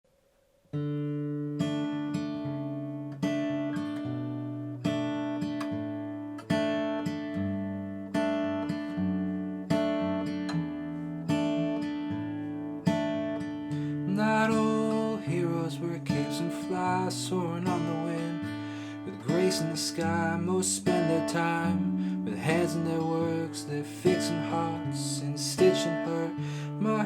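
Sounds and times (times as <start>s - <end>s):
strummed acoustic guitar chords: 0.7s - 27.0s.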